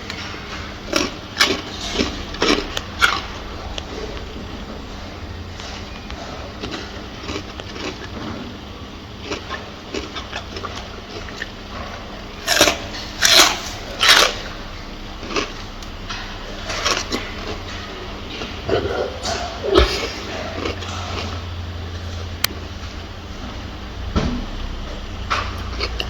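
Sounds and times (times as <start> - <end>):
gorilla chewing: 0.0 - 22.6.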